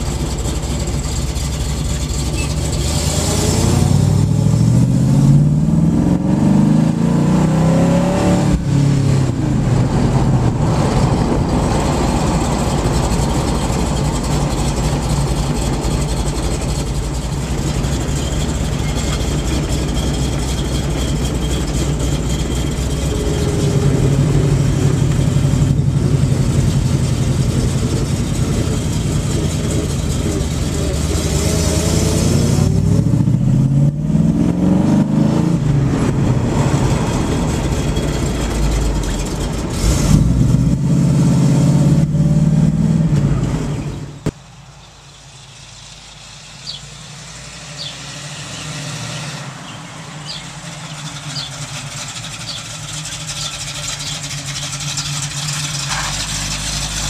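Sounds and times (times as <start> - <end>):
car engine accelerating: 0.0 - 44.4, 45.6 - 57.0
car approaching: 0.0 - 57.0.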